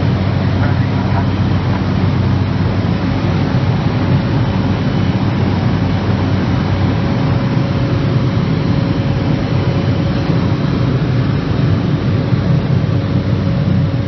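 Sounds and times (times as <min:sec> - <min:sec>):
faint steady whine: 0:00.0 - 0:14.0
turboprop engine running: 0:00.0 - 0:14.0.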